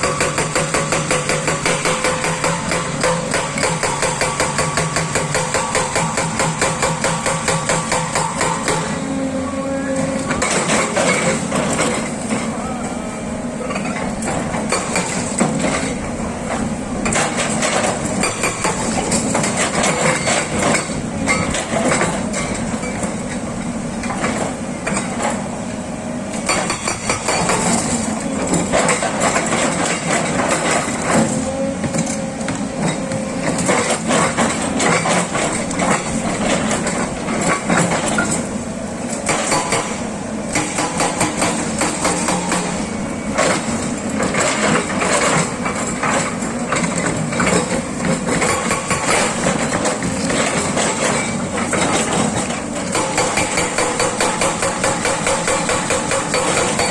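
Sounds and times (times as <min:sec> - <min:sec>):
hydraulic breaker hammering rock: 0:00.0 - 0:09.2, 0:10.0 - 0:12.5, 0:13.7 - 0:23.2, 0:26.3 - 0:38.5, 0:39.1 - 0:56.9
excavator engine: 0:00.0 - 0:56.9.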